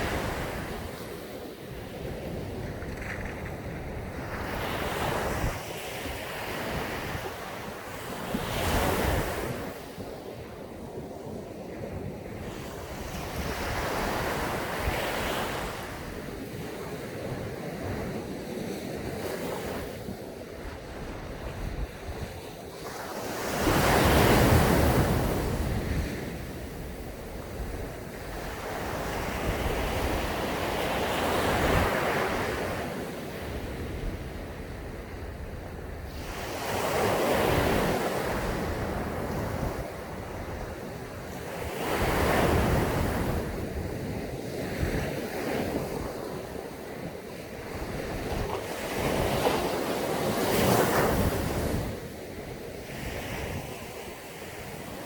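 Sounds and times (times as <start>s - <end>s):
waves breaking on a beach: 0.0s - 55.0s
wind noise on microphone: 0.0s - 55.0s.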